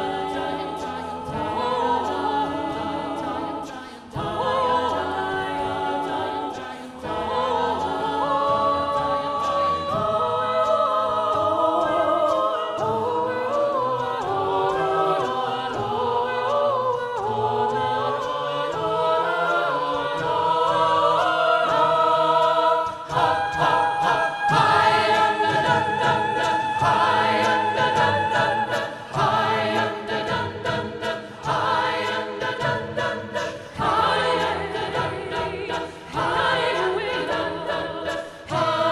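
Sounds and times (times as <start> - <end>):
a cappella choir singing: 0.0 - 38.9.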